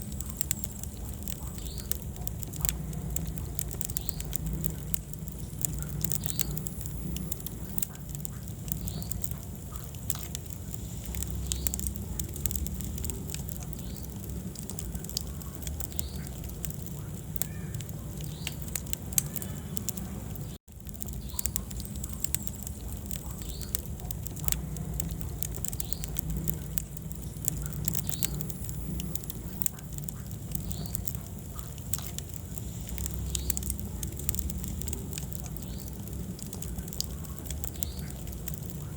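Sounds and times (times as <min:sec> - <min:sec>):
fire crackling and popping: 0:00.0 - 0:38.9
low rumble of flame: 0:00.0 - 0:38.9.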